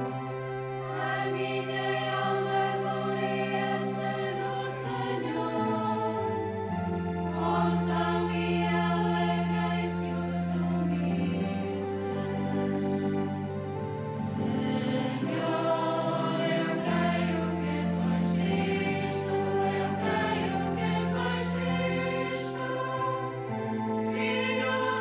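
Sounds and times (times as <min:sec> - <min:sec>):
choir of young voices singing: 0:00.0 - 0:25.0
organ chords: 0:00.0 - 0:25.0.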